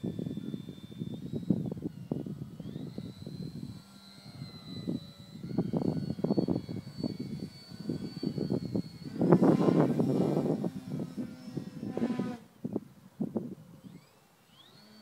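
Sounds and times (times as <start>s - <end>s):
model plane motor whine: 0.0s - 15.0s
propeller noise: 0.0s - 15.0s.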